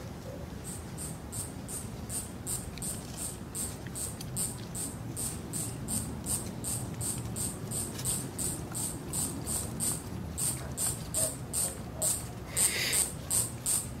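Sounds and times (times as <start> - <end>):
insect chirping: 0.6 - 13.9.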